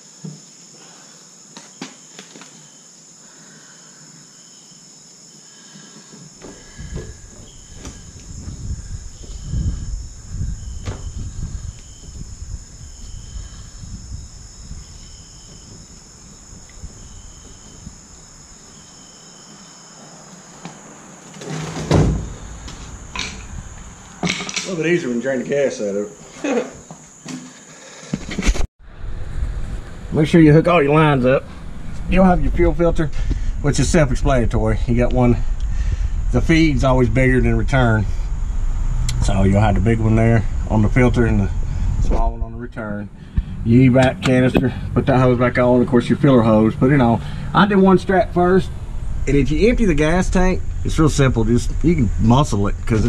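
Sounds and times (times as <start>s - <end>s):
high insect chirping: 0.0s - 28.5s, 30.2s - 53.0s.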